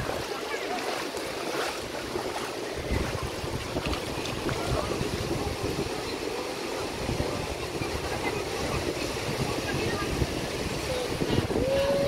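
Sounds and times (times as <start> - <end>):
small waves on beach: 0.0 - 12.0
wind buffeting microphone: 1.4 - 12.0.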